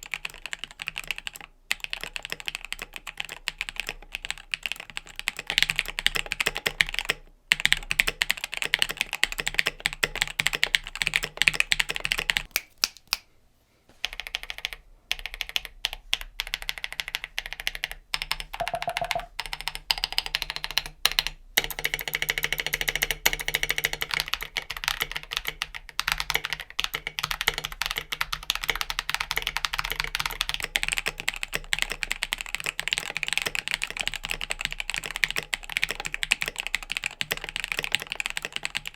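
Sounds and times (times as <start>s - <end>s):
mechanical keyboard typing: 0.0s - 12.5s, 14.0s - 38.9s.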